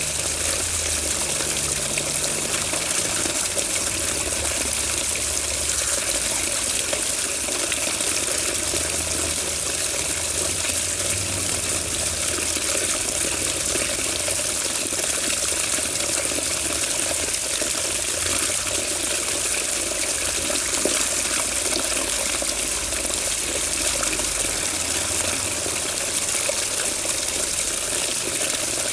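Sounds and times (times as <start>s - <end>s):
water running: 0.0s - 28.9s.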